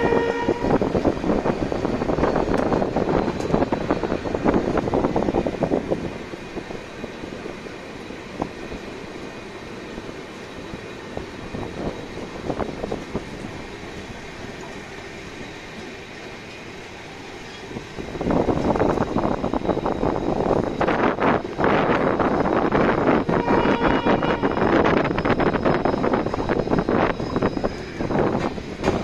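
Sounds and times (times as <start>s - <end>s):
loud train rush: 0.0s - 29.0s
train wheels rumbling on rail: 0.0s - 29.0s.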